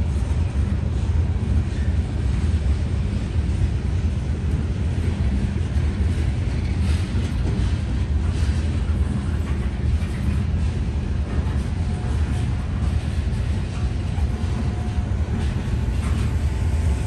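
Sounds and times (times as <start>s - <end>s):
freight train wheels rumbling: 0.0s - 17.0s
train wheels clattering: 0.0s - 17.0s.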